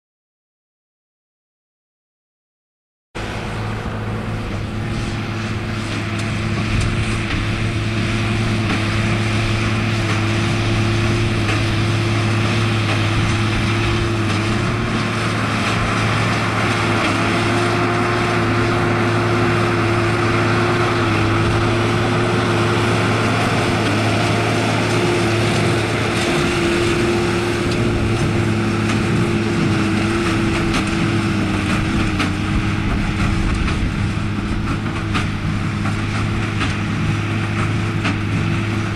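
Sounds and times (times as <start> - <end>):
tractor diesel engine running: 3.2 - 38.9.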